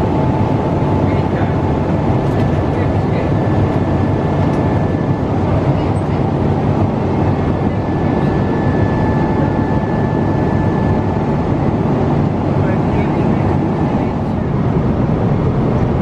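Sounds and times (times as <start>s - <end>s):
airplane cabin noise: 0.0s - 16.0s.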